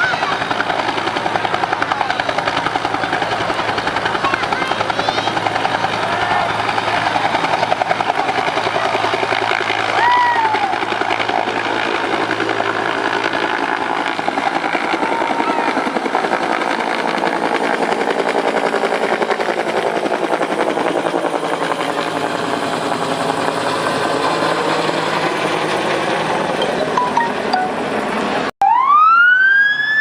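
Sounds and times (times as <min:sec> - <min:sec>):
helicopter rotor chopping: 0:00.0 - 0:28.5.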